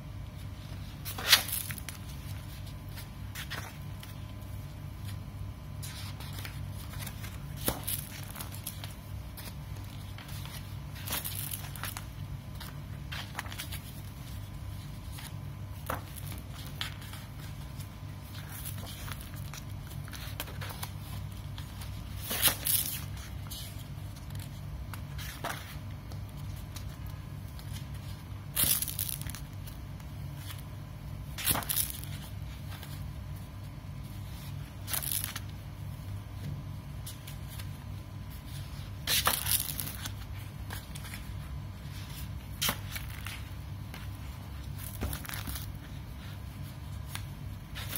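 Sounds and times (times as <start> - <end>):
steady low hum: 0.0 - 47.9
pages turning: 0.4 - 47.9.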